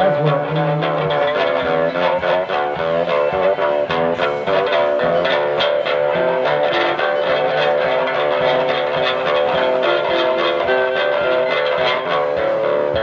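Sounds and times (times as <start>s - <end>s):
fiddle bowing held notes: 0.0s - 13.0s
lap steel guitar picking: 0.0s - 13.0s.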